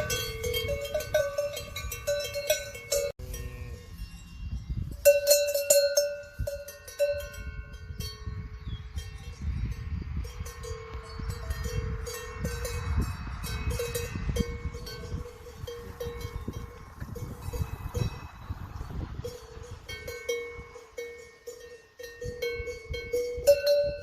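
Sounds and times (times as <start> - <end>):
cowbells clanking: 0.0 - 24.0.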